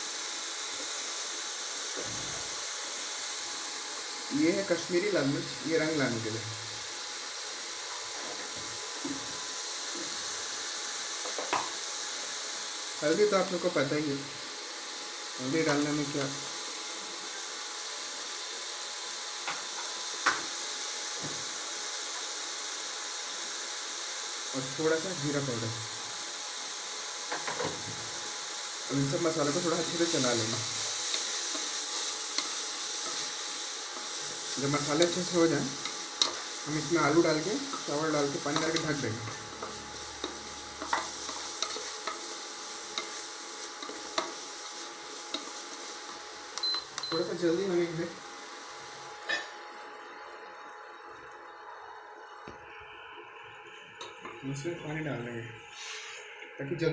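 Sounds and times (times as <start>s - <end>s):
food sizzling in oil: 0.0s - 56.1s.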